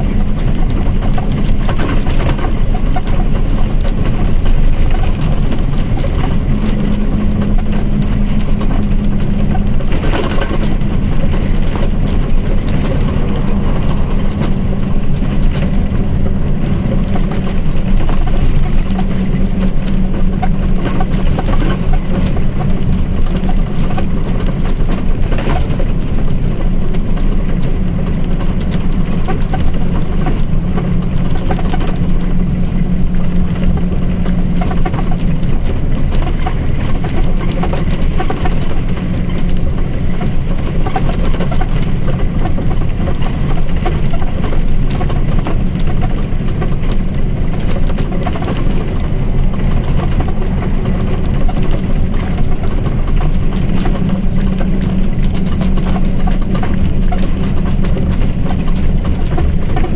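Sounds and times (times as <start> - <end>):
bus drivetrain drone: 0.0 - 59.9
constant rattling: 0.0 - 59.9.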